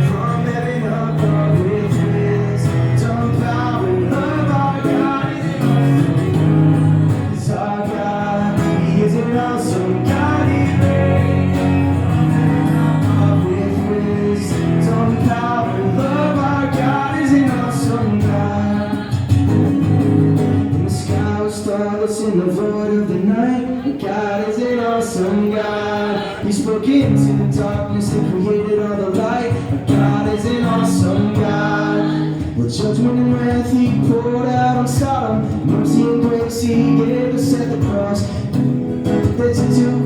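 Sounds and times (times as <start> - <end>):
man singing worship song: 0.0 - 19.3, 20.7 - 40.0
guitar backing: 0.0 - 40.0.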